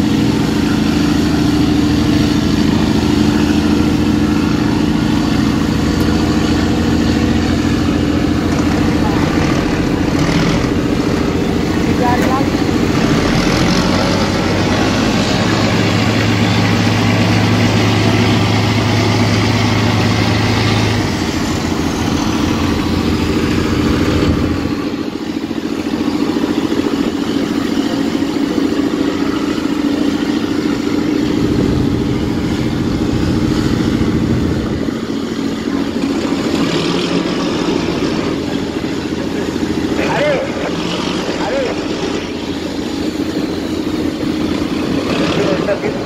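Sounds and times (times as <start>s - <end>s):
marine diesel engine running: 0.0s - 46.0s.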